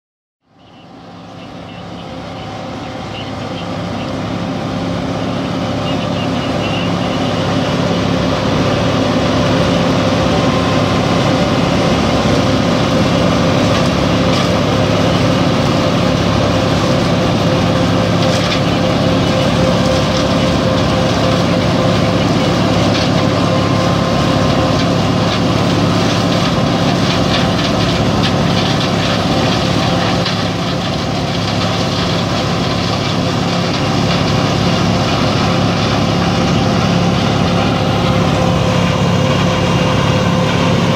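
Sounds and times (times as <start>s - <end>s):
farm machinery engine drone: 0.4s - 40.9s.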